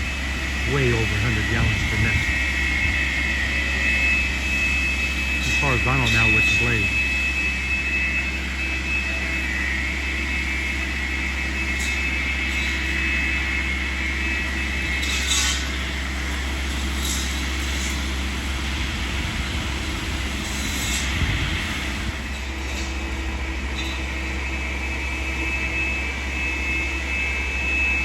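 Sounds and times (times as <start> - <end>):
distant engine and hydraulics: 0.0 - 28.0
high steady whine: 0.0 - 28.0.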